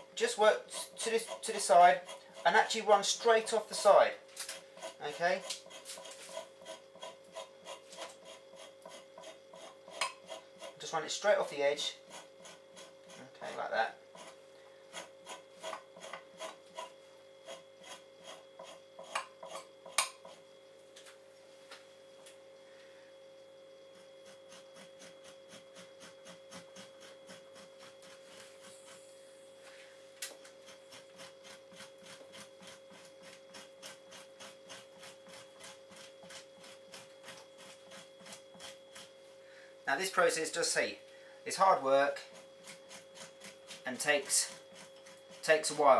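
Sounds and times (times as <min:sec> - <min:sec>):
knife scraping animal hide: 0:00.0 - 0:20.5, 0:23.9 - 0:29.3, 0:30.3 - 0:39.4, 0:40.0 - 0:40.9, 0:41.5 - 0:45.9.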